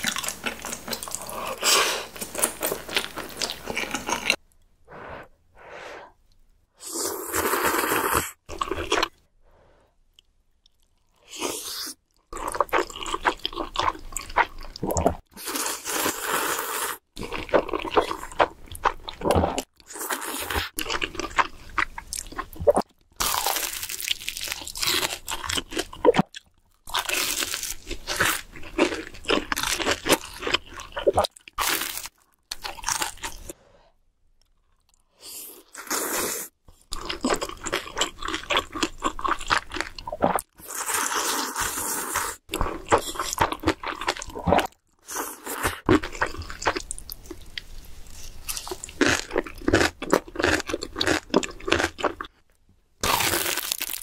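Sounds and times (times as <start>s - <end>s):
crunching and chewing food: 0.0s - 4.4s, 7.5s - 9.2s, 10.1s - 16.2s, 17.0s - 33.6s, 36.7s - 54.0s.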